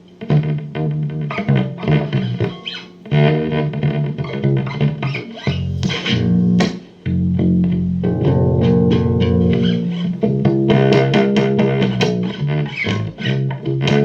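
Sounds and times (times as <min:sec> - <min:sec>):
guitar music with effects: 0:00.0 - 0:14.0
bass guitar notes: 0:00.2 - 0:14.0.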